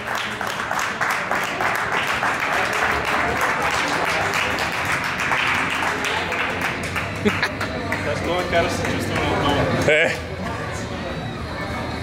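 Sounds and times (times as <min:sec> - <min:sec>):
crowd applauding: 0:00.0 - 0:10.2
voices: 0:00.4 - 0:12.0.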